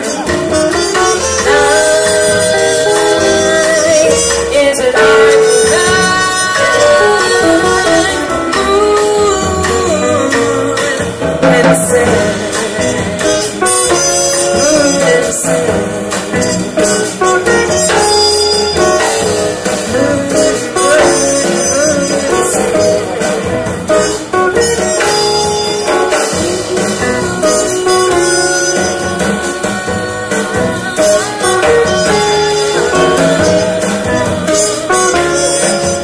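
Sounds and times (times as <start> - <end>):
double bass: 0.0 - 36.0
guitar: 0.0 - 36.0
piano: 0.0 - 36.0
trumpet: 0.0 - 36.0.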